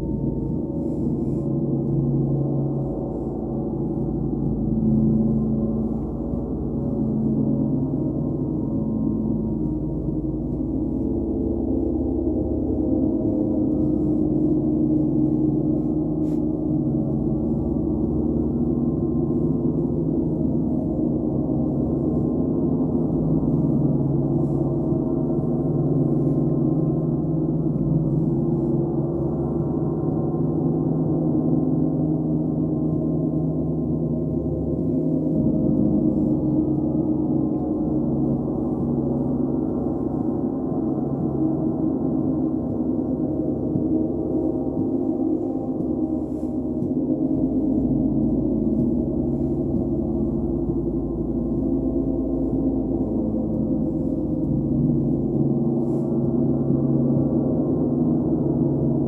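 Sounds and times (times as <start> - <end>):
sustained low gong tones: 0.0 - 59.0.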